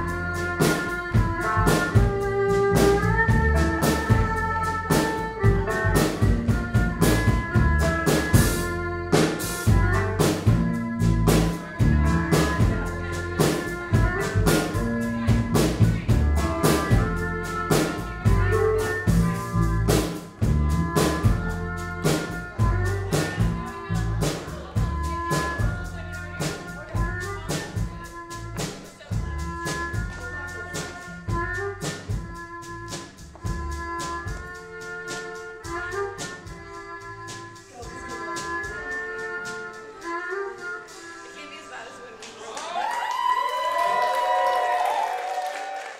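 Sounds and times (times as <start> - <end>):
upright bass: 0.0 - 41.7
steady drum beat: 0.0 - 42.0
bowed cello: 0.0 - 42.1.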